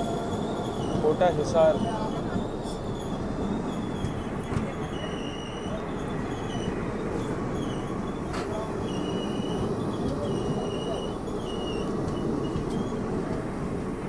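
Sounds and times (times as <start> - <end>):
high-pitched wheel squeals: 0.0 - 13.2
train rumbling on rails: 0.0 - 14.0.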